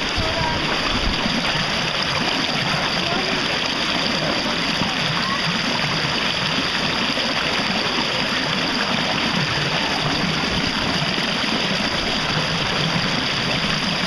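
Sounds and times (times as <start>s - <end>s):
churning bubbling water: 0.0s - 14.0s.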